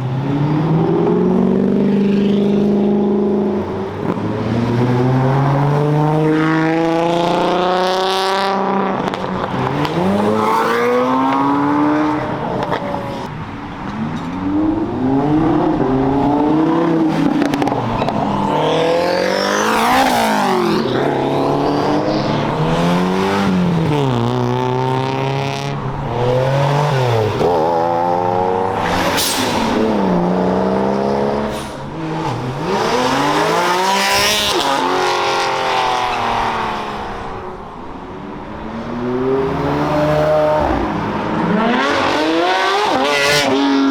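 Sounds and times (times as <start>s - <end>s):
cars accelerating and revving: 0.0s - 43.9s.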